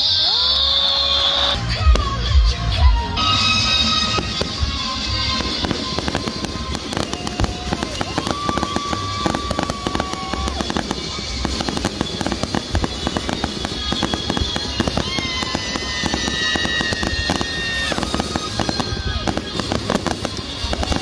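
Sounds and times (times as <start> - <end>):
fireworks popping and banging: 0.0 - 21.0
music with long held tones: 0.0 - 21.0.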